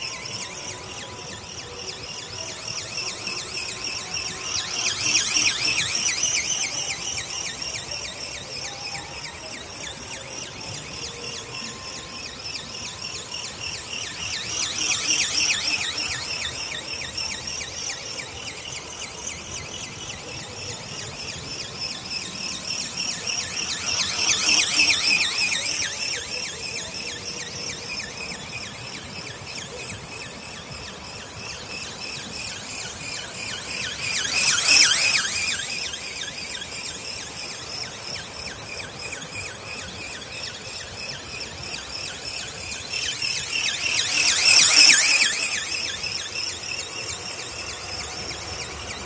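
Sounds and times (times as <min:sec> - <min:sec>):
model ornithopter motor whine: 0:00.0 - 0:49.0.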